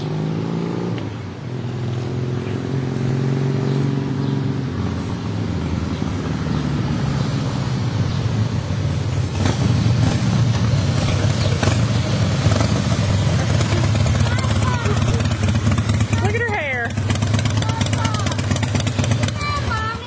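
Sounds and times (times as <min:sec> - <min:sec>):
motorcycle engine running: 0:01.0 - 0:20.0.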